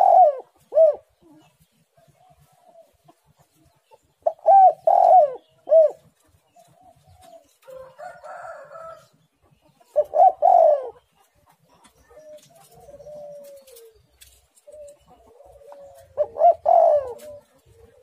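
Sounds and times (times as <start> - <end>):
dove cooing: 0.0 - 9.1, 9.8 - 18.0.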